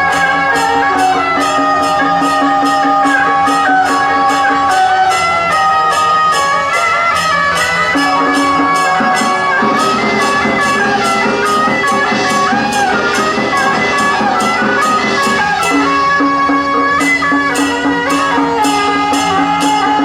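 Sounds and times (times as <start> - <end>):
steady percussion beats: 0.0 - 20.0
wind instruments melody: 0.0 - 20.0.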